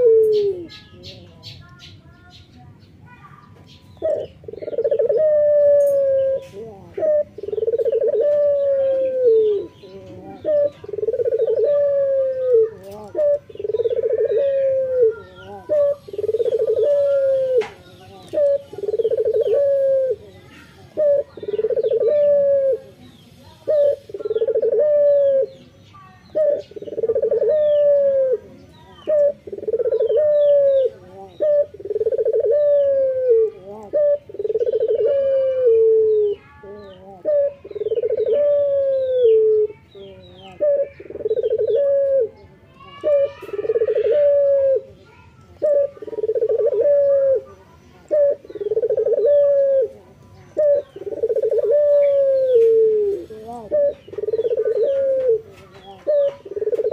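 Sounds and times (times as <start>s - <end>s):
dove cooing: 0.0s - 1.4s, 3.9s - 56.9s
small birds chirping: 0.0s - 56.9s.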